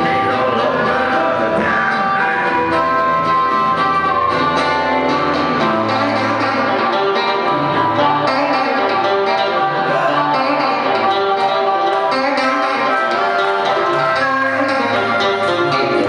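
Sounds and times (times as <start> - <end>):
blues harmonica: 0.0 - 16.0
electric guitar: 0.0 - 16.0
live blues band playing: 0.0 - 16.0.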